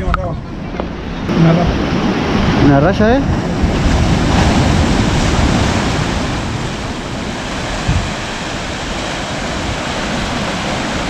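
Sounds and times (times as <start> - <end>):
wind buffeting microphone: 0.0 - 11.0
sea waves washing against rocks: 1.2 - 11.0.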